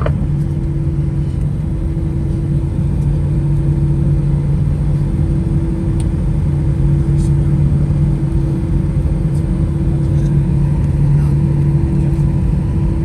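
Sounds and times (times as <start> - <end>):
aircraft engines rumbling: 0.0 - 13.0
constant low hum: 0.0 - 13.0.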